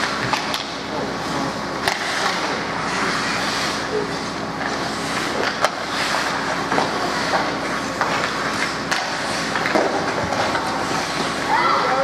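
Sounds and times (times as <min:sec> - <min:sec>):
hockey sticks clacking: 0:00.0 - 0:00.8, 0:01.8 - 0:03.8, 0:04.6 - 0:12.0
skate blades scraping ice: 0:01.2 - 0:12.0.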